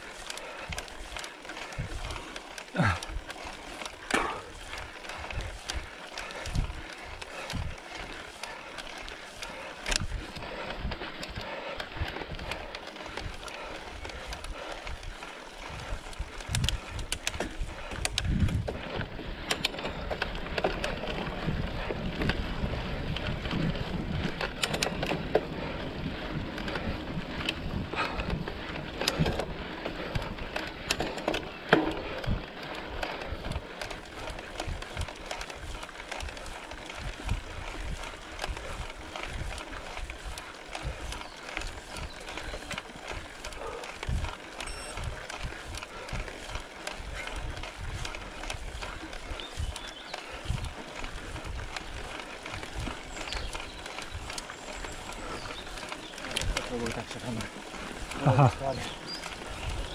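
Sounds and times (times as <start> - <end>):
bike rattles and knocks: 0.0 - 59.9
tyres on dirt trail: 0.0 - 59.9.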